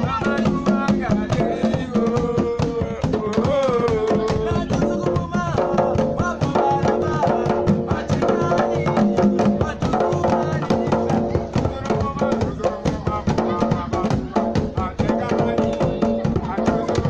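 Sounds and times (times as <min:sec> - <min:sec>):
djembes and drum rhythm: 0:00.0 - 0:17.0
voices singing: 0:00.0 - 0:17.0.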